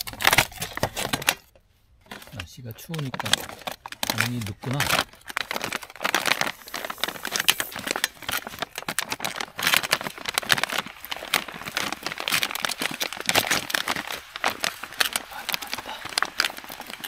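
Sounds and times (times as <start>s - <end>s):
foil pouch crinkling: 0.0s - 17.0s.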